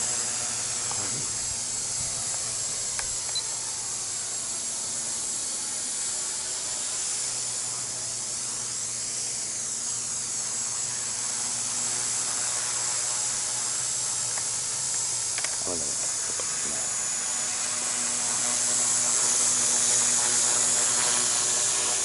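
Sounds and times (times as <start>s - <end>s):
electric motor high whine: 0.0s - 22.0s
rotor blades hissing: 0.0s - 22.0s.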